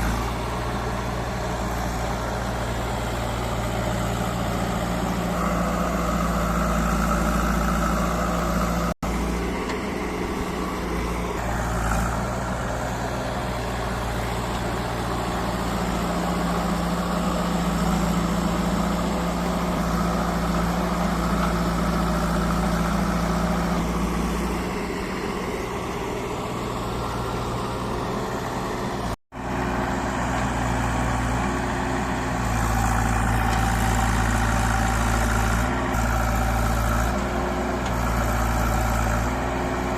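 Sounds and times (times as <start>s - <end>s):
diesel engine working under load: 0.0s - 39.9s.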